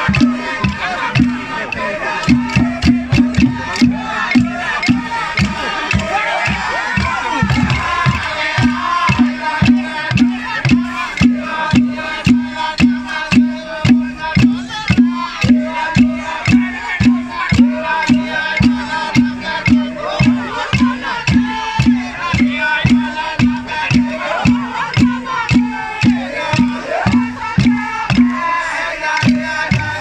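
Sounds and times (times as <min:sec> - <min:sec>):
men chanting in unison: 0:00.0 - 0:30.0
steady drumbeat: 0:00.0 - 0:30.0.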